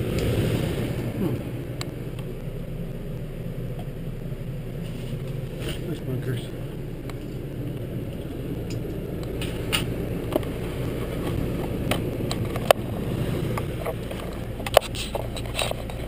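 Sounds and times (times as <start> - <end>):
low wind: 0.0 - 16.0
road rumble: 0.0 - 16.0.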